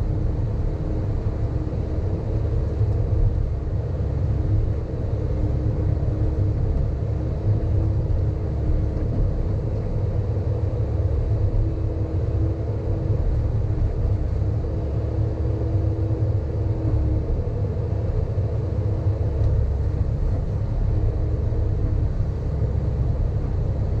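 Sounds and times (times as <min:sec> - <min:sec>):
excavator diesel engine rumbling: 0:00.0 - 0:24.0.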